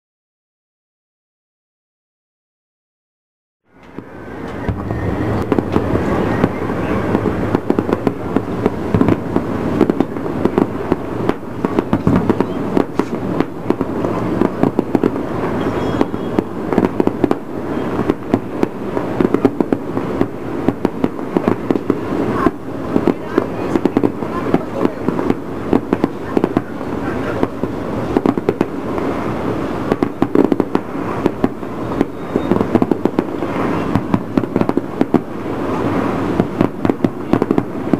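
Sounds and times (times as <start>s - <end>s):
fireworks crackling and popping: 3.7s - 37.9s
loud firework bangs: 3.8s - 37.9s.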